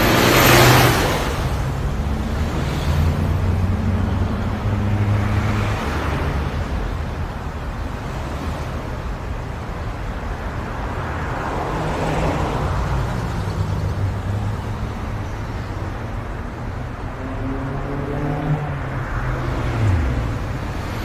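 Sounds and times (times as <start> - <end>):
tyre and road rush: 0.0 - 21.0.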